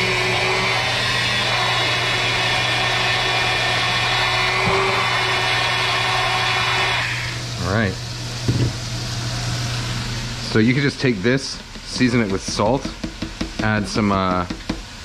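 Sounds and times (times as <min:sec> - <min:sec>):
blender running: 0:00.0 - 0:15.0.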